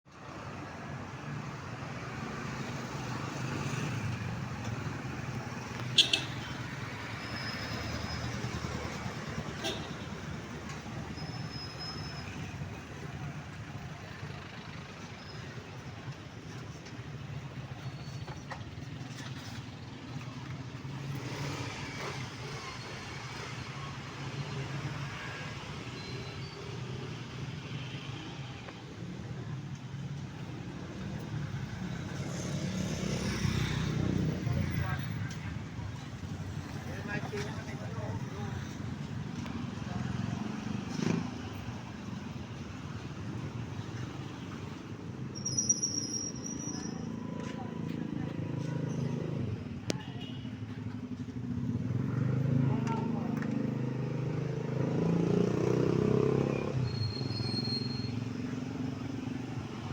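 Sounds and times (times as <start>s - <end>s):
vehicle engines rumbling: 0.1s - 59.9s.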